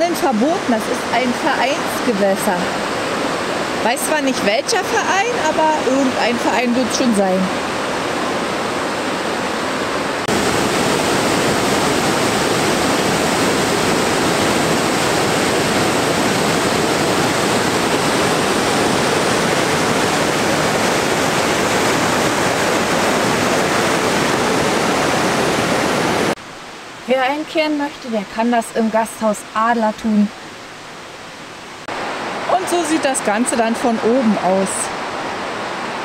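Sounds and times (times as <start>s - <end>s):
waterfall rushing over rock: 0.0s - 27.4s, 31.8s - 36.0s.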